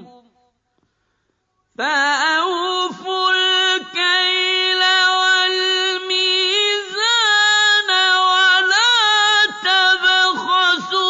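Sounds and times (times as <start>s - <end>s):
person chanting recitation: 1.8s - 11.0s.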